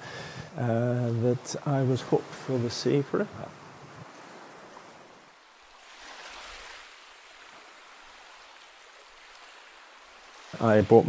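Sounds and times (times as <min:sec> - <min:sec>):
faint surf washing against rocks: 0:00.4 - 0:11.0.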